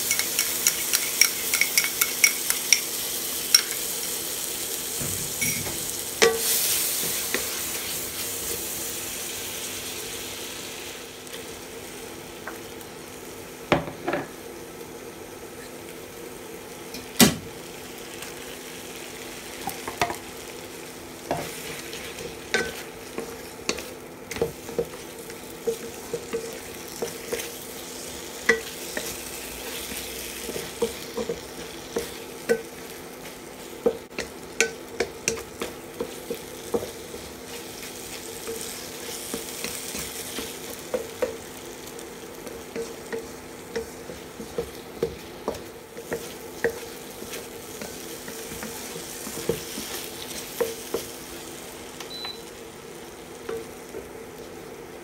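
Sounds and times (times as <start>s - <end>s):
gravy sizzling in a wok: 0.0s - 55.0s.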